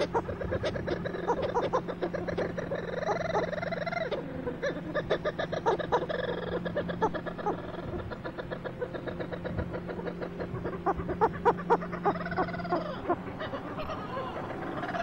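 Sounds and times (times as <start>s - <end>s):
low hum: 0.0s - 15.0s
seabirds chattering: 0.0s - 15.0s.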